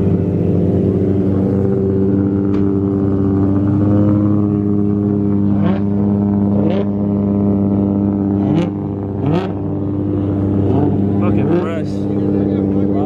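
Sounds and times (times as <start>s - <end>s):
car engine idling: 0.0s - 13.0s
rising throttle blips: 0.0s - 13.0s.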